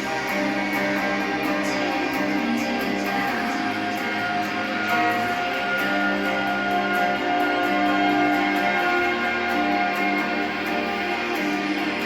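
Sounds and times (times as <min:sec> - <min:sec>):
layered chord tones: 0:00.0 - 0:12.0.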